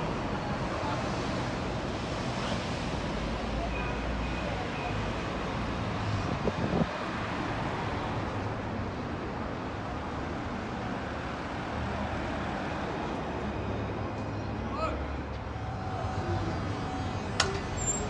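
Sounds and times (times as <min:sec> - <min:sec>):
street traffic passing cars: 0:00.0 - 0:18.0.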